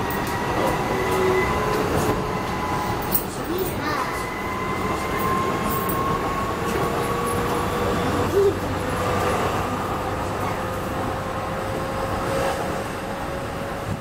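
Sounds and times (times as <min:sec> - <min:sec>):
wheels rumbling on track: 0:00.0 - 0:14.0.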